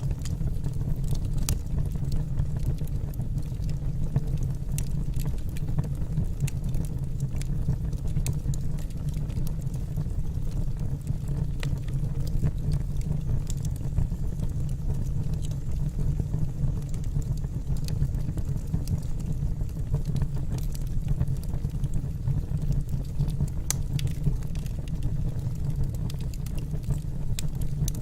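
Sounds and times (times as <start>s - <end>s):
fire flames rumbling: 0.0s - 28.0s
logs crackling and popping: 0.0s - 28.0s.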